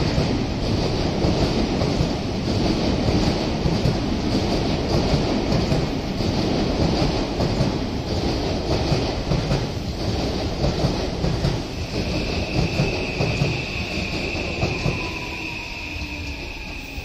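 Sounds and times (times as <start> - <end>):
train passing close by: 0.0 - 17.0.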